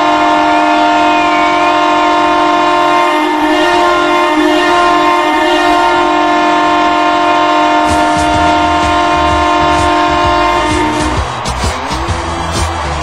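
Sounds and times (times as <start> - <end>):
arena goal horn blast: 0.0 - 12.8.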